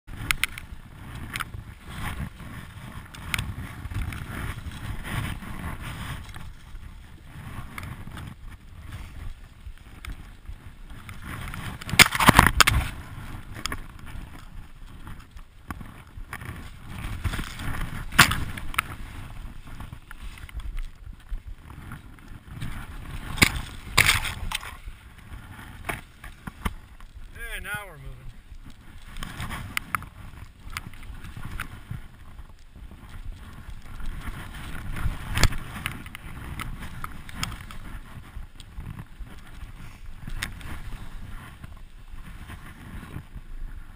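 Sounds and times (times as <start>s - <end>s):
branches brushing across camera: 0.1s - 43.9s
wind rumble on microphone: 0.1s - 43.9s
skis hissing through soft snow: 0.9s - 11.6s, 16.4s - 43.9s.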